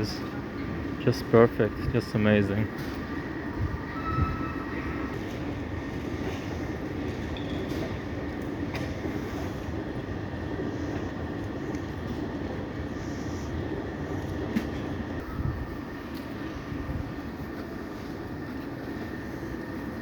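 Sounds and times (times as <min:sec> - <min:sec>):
train running on rails: 0:00.0 - 0:20.0.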